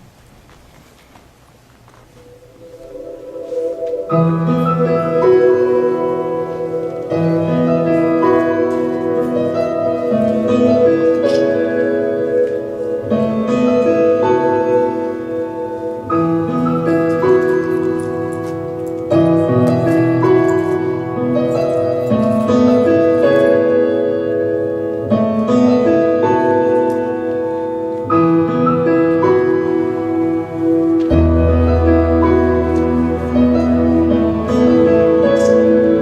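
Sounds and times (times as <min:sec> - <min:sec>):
slow piano chords: 0:01.8 - 0:36.0.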